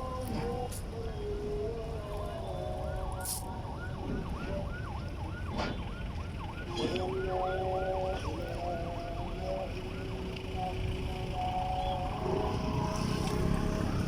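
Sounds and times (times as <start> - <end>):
highway traffic rumble: 0.0 - 14.0
emergency siren yelping: 1.8 - 14.0.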